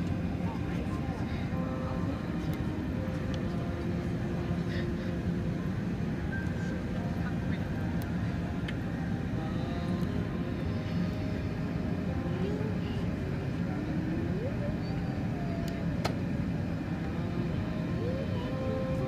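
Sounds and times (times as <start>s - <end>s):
jet engine roar in cabin: 0.0s - 19.0s.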